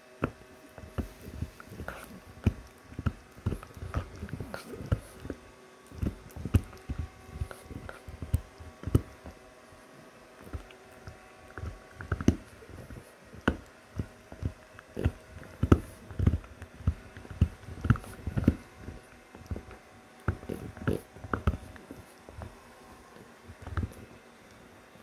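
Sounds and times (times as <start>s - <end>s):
dog gnawing on chew stick: 0.0s - 25.0s.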